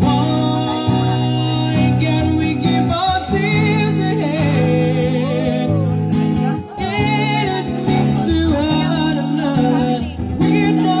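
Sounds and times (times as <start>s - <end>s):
acoustic guitar: 0.0s - 11.0s
man singing: 0.0s - 11.0s.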